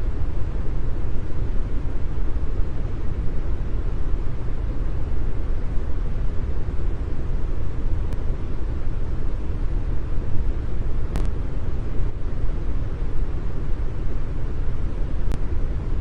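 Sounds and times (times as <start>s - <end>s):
brown noise hiss: 0.0s - 16.0s.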